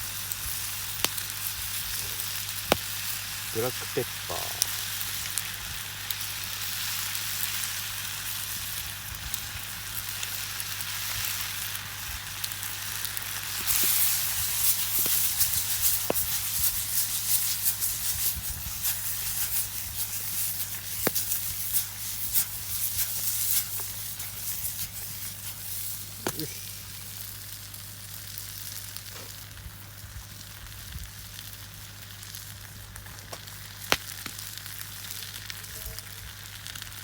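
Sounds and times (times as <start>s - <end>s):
fire crackling: 0.0s - 37.0s
sauce sizzling in a frying pan: 0.0s - 37.0s.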